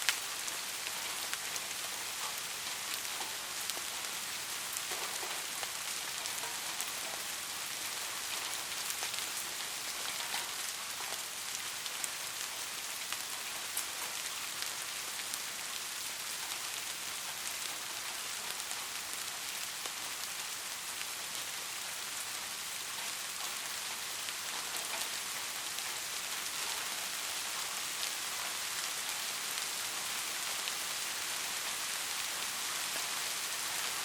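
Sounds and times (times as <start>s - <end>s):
rain falling on a roof: 0.0s - 34.0s.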